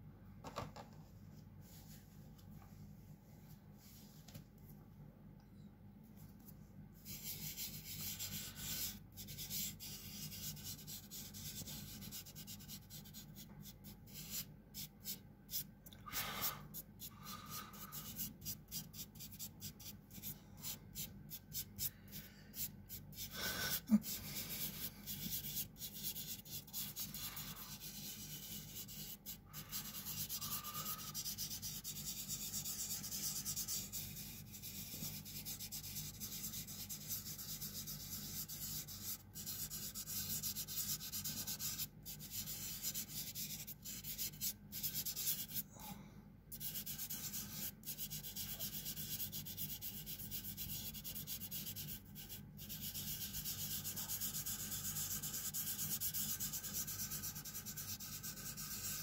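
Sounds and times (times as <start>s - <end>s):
fingers rubbing pastel on paper: 7.0s - 15.7s, 16.7s - 45.6s, 46.5s - 59.0s.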